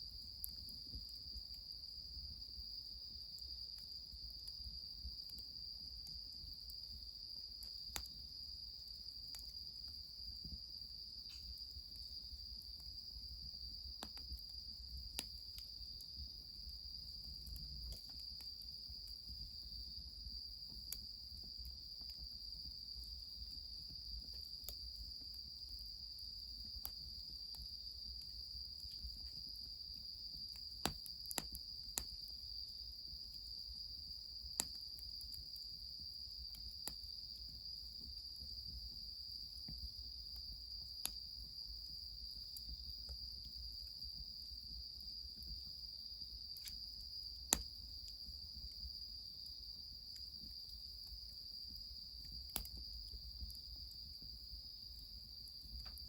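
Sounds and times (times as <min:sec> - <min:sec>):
wood fire crackles and pops: 0:00.0 - 0:45.8, 0:46.4 - 0:56.0
crickets chirping: 0:00.0 - 0:56.0.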